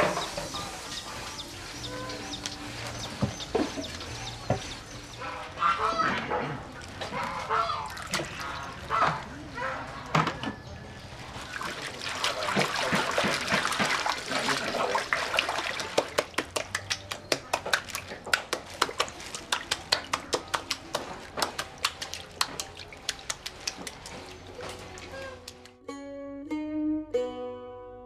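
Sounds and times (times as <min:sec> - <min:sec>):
water sloshing: 0:00.0 - 0:10.1, 0:11.0 - 0:25.6.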